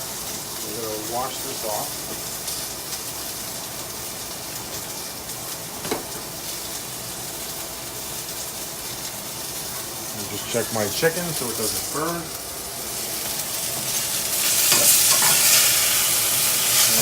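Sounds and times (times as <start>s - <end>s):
chicken frying in a pan: 0.0s - 17.0s.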